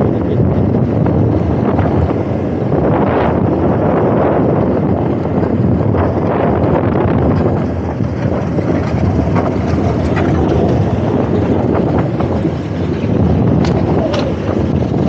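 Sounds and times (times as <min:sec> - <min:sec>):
motorcycle engine: 0:00.0 - 0:15.0
tyre noise: 0:00.0 - 0:15.0
wind rush on microphone: 0:00.0 - 0:15.0.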